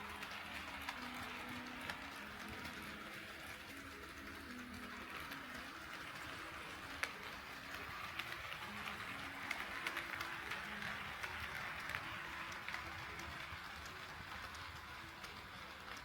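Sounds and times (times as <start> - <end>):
model train rolling hiss: 0.0 - 16.0
wheels clicking over rail joints: 0.0 - 16.0.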